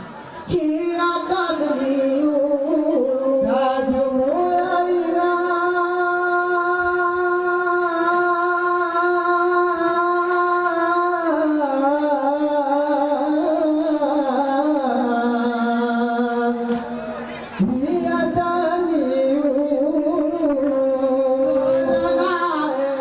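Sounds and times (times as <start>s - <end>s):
high voice chanting: 0.4s - 23.0s.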